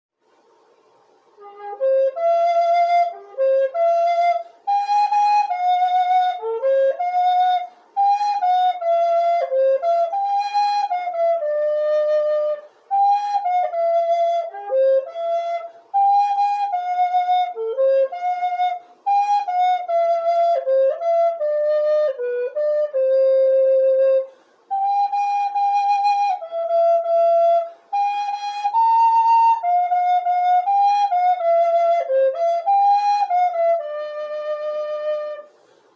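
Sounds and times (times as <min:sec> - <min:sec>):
solo flute playing hymn melody: 0:01.3 - 0:35.8.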